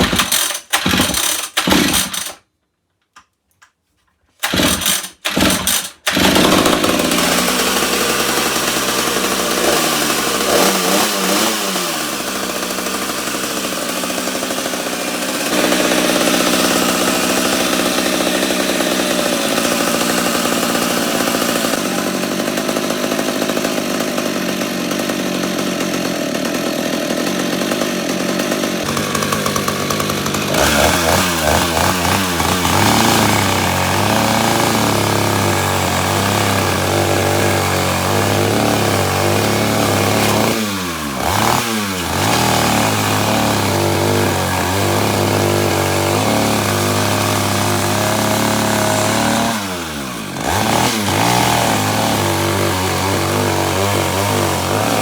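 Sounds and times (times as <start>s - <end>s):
chainsaw running at high revs: 0.0s - 2.4s, 4.4s - 55.0s.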